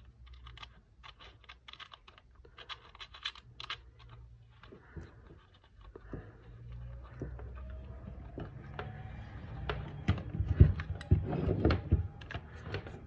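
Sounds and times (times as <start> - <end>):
plastic and metal parts knocking: 0.0 - 13.0.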